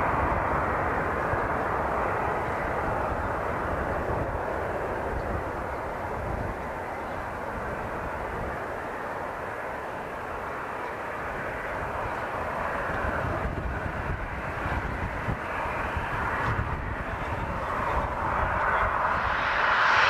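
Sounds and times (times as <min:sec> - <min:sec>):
airliner engines roaring: 0:00.0 - 0:20.0.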